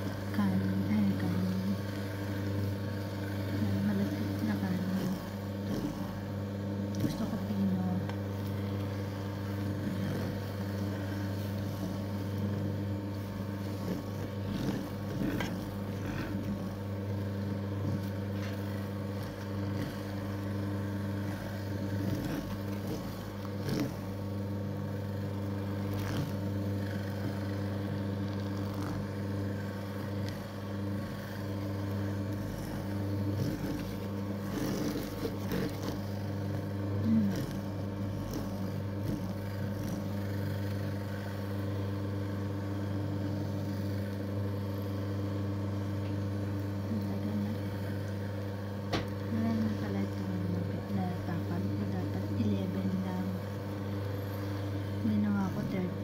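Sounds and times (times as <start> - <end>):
motor humming: 0.0 - 56.0.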